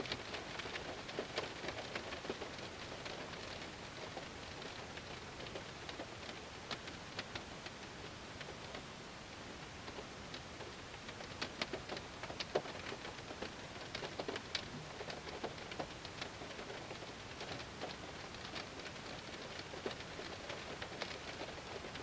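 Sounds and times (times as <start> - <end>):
raindrops ticking on glass: 0.0 - 8.8, 9.8 - 22.0
rain on a car: 0.0 - 22.0.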